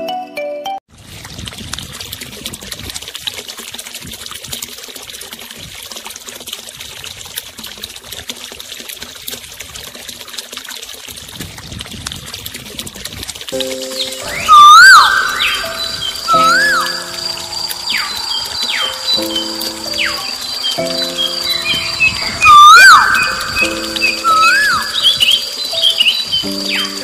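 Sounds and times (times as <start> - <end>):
water trickling onto wet soil: 0.9 - 27.0.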